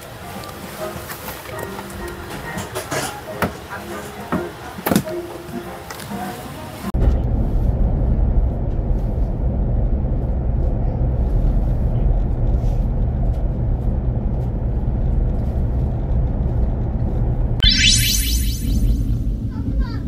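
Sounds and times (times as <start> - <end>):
train rumbling: 0.0 - 17.6.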